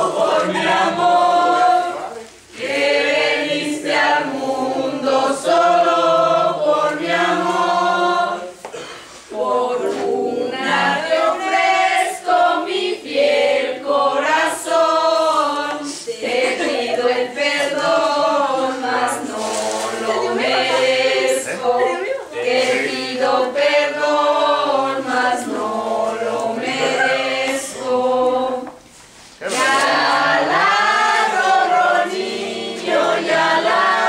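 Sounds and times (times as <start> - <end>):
group singing together: 0.0 - 34.0.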